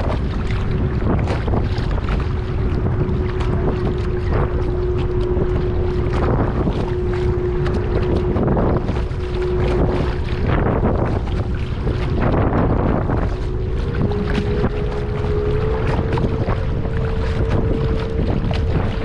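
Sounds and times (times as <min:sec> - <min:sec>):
steady hum: 0:00.0 - 0:19.0
water slapping against kayak: 0:00.0 - 0:19.0
wind buffeting microphone: 0:00.0 - 0:19.0.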